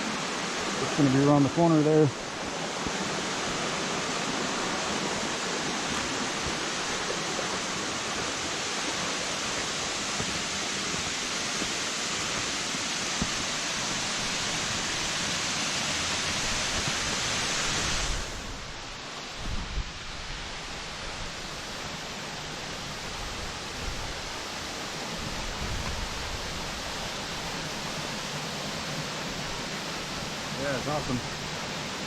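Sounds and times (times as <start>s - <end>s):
waterfall roaring: 0.0s - 19.4s, 20.0s - 32.0s.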